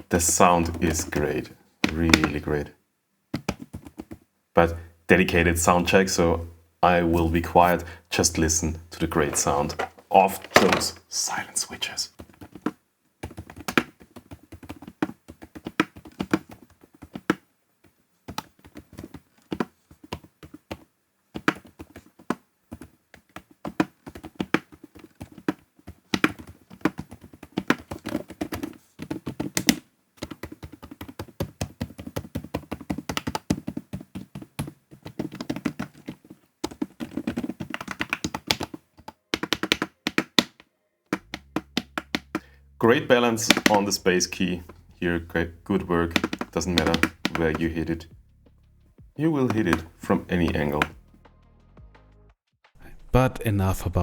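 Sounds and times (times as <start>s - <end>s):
soft muted keyboard typing: 0.0s - 2.7s, 3.3s - 4.8s, 7.4s - 48.1s, 49.2s - 51.0s.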